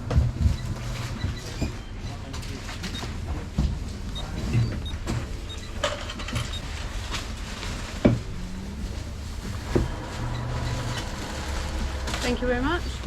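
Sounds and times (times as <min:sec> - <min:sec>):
groceries being handled: 0:00.0 - 0:13.0.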